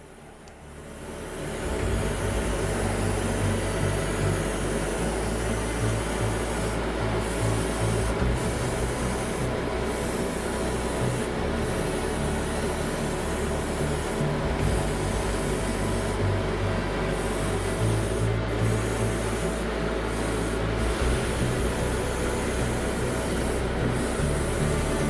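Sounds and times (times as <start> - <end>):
airbrush hissing: 0.9 - 25.0.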